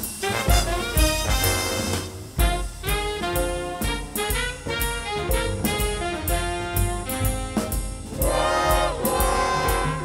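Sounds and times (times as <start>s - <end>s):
big band swing music: 0.0s - 10.0s
jazz drum kit: 0.0s - 10.0s.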